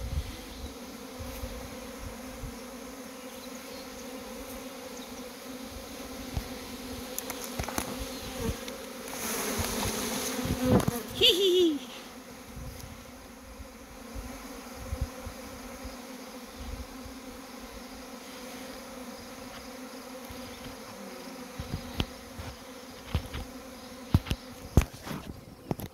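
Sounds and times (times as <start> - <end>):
bees buzzing: 0.0 - 25.9.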